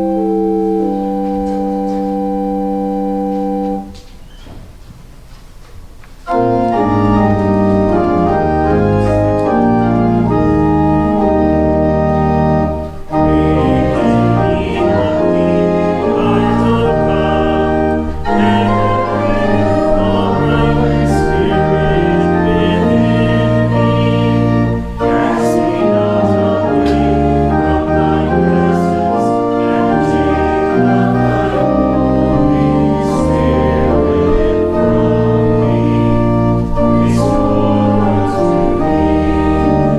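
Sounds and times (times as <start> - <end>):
church organ chords: 0.0 - 4.4, 5.3 - 39.9.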